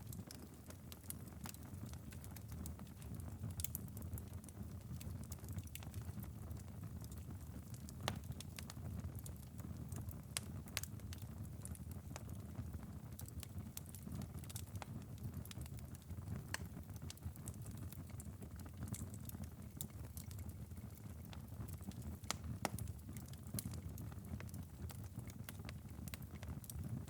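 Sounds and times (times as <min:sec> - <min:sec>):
embers crackling faintly: 0:00.0 - 0:27.0.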